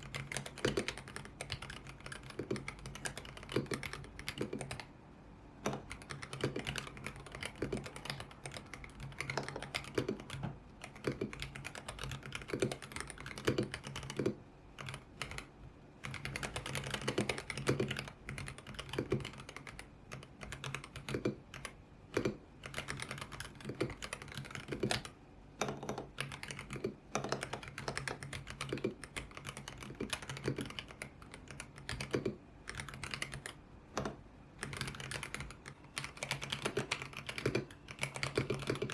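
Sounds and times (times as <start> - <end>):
mechanical keyboard typing: 0.0 - 4.9, 5.6 - 38.9.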